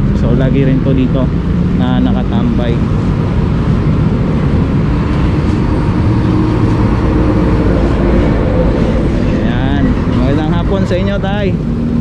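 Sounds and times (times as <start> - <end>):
busy road traffic rumble: 0.0 - 12.0.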